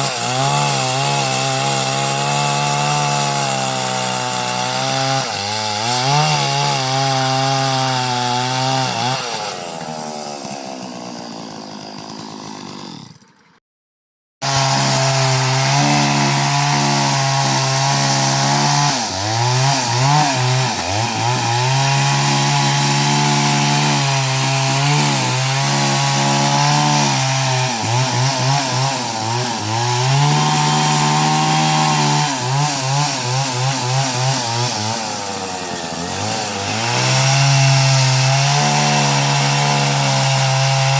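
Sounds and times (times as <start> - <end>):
chainsaw cutting: 0.0 - 13.6, 14.4 - 40.9.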